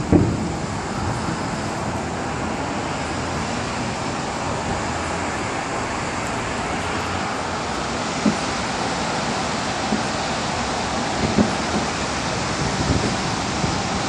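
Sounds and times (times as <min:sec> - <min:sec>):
distant road traffic roar: 0:00.0 - 0:14.0.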